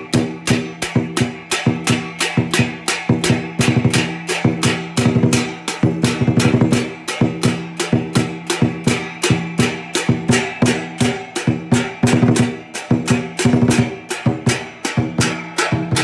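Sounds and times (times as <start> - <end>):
cymbals clashing: 0.0 - 16.0
large drum beaten with sticks: 0.0 - 16.0.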